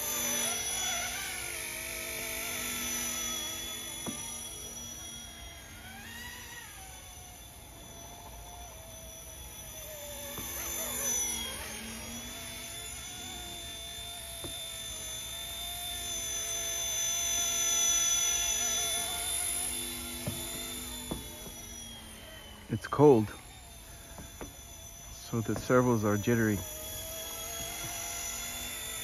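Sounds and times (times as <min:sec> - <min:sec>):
rc helicopter rotor whine: 0:00.0 - 0:29.0.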